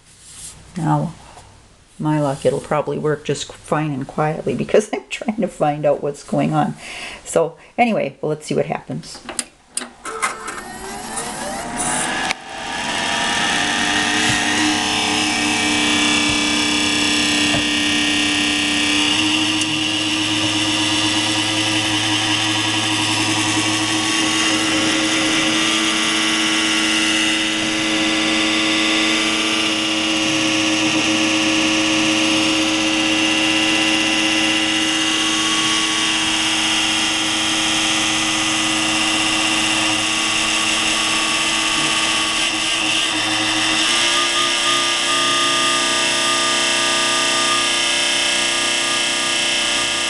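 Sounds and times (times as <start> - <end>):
computer grinding noise: 9.9 - 50.0.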